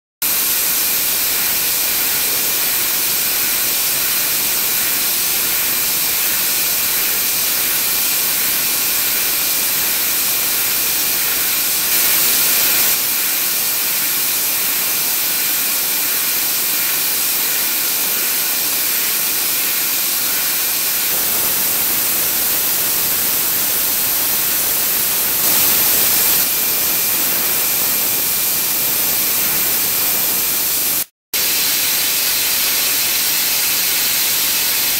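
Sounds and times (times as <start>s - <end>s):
air turbine spindle hiss: 0.3s - 34.9s.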